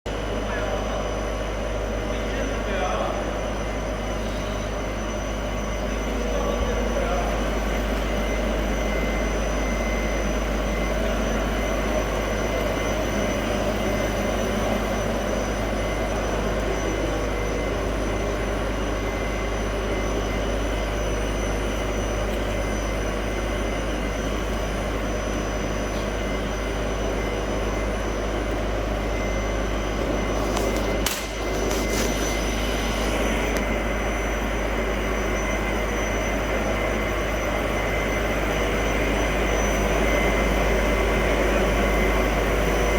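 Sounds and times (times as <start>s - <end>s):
extruder machine droning: 0.1s - 42.9s.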